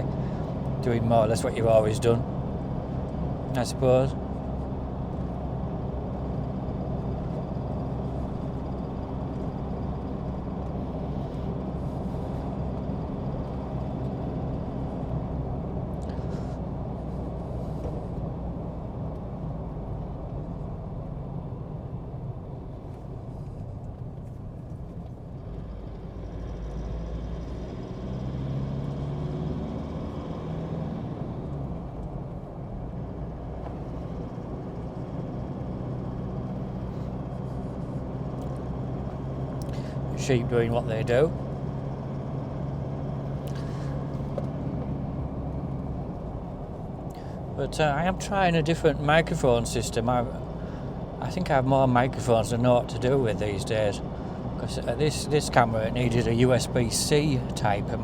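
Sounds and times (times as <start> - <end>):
vehicle engine and road hum: 0.0 - 58.0.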